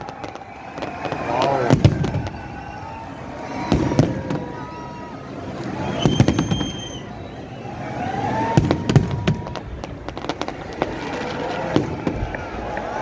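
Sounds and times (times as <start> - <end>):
fireworks bangs and cracks: 0.0 - 13.0
steady outdoor din: 0.0 - 13.0.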